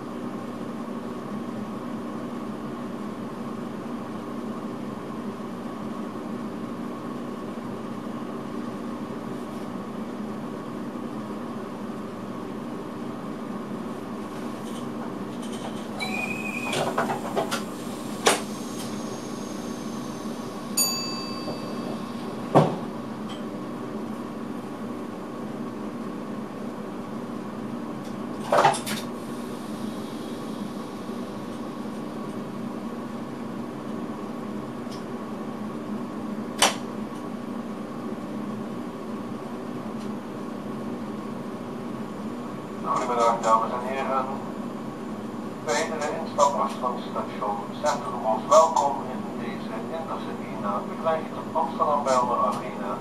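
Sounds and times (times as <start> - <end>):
electrical equipment hum: 0.0 - 53.0.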